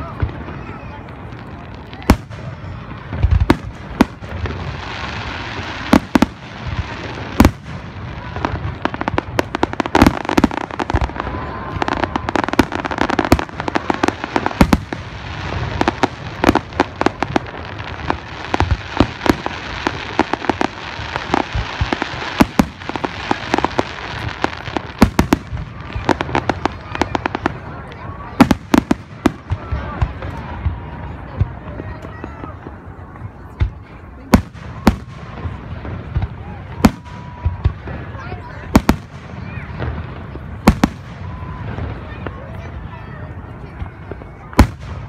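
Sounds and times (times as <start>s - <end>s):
continuous hiss: 0.0s - 45.0s
fireworks booming: 0.0s - 45.0s.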